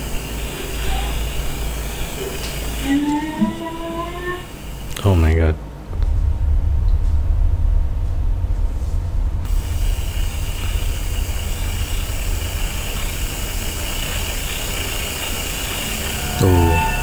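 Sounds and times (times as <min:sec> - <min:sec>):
low steady rumble: 0:00.0 - 0:17.0
microphone hiss: 0:00.0 - 0:17.0.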